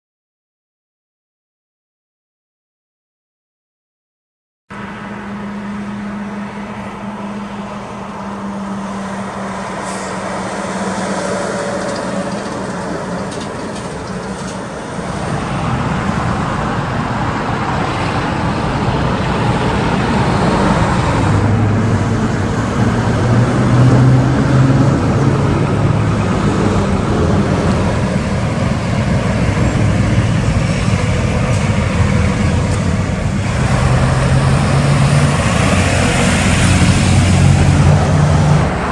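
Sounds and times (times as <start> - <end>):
trucks driving past: 4.7 - 38.9
tyre and traffic noise: 4.7 - 38.9.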